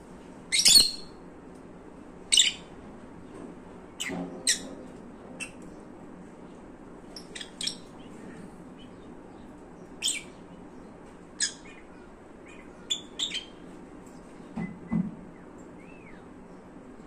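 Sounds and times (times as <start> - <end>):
lovebirds chirping: 0.5 - 1.2, 2.3 - 2.7, 4.0 - 17.0.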